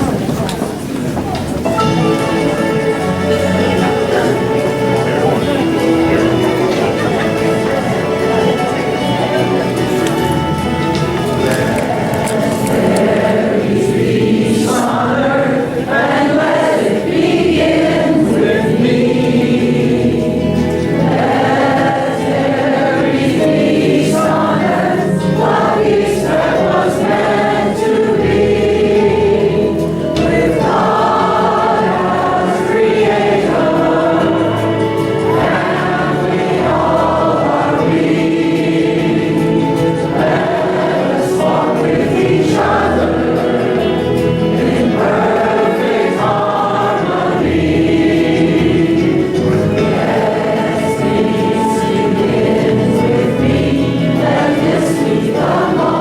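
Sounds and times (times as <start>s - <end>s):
congregation singing in unison: 0.0s - 56.0s.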